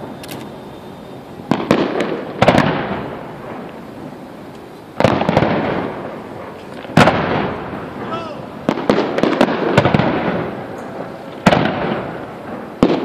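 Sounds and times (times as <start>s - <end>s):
fireworks crackling: 0.0s - 13.0s
fireworks shells bursting: 1.4s - 13.0s.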